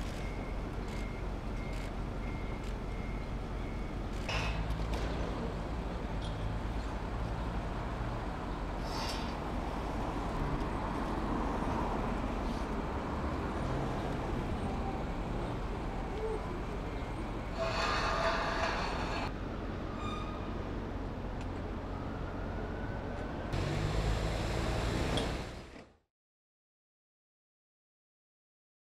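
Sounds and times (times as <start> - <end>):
vehicle engines humming: 0.0 - 25.8.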